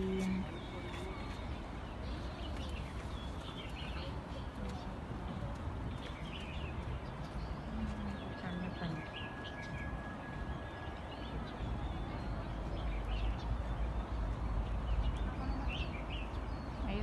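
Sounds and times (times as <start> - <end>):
birds chirping: 0.0 - 17.0
steady background noise: 0.0 - 17.0.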